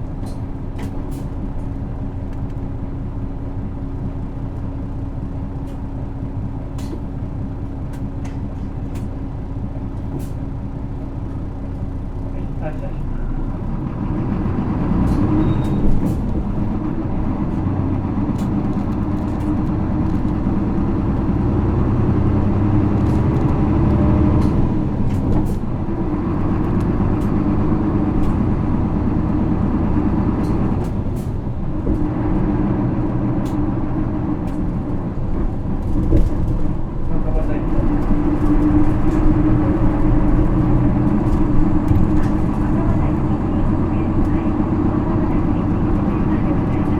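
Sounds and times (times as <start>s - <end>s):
bus diesel engine running: 0.0s - 46.9s
rattling clicks in bus interior: 0.0s - 46.9s.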